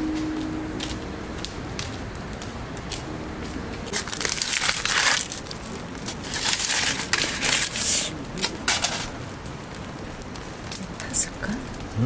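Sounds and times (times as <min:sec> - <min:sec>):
crinkling crushing noise: 0:00.0 - 0:12.0.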